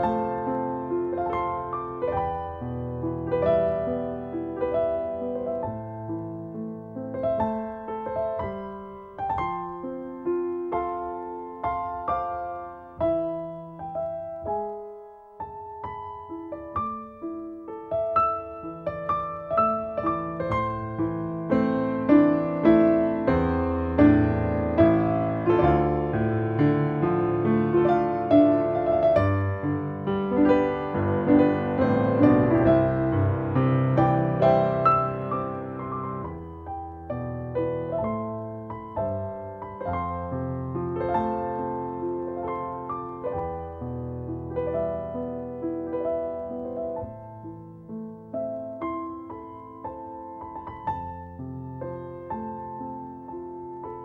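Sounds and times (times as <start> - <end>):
background piano music: 0.0 - 54.0.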